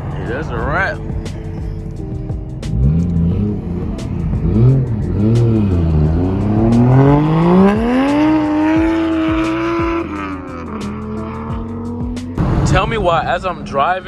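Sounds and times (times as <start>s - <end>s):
car engine revving and accelerating: 0.0s - 14.0s.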